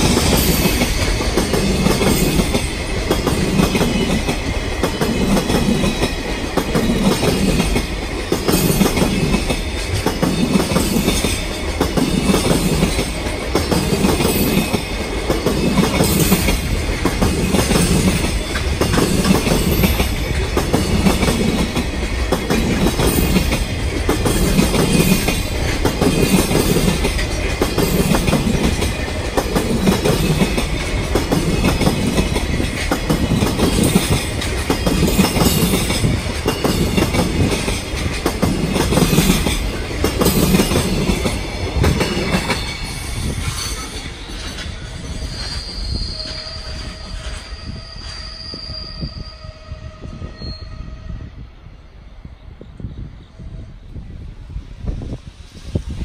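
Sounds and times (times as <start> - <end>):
wheels clacking over rail joints: 0.0 - 45.7
freight train rumbling: 0.0 - 56.0.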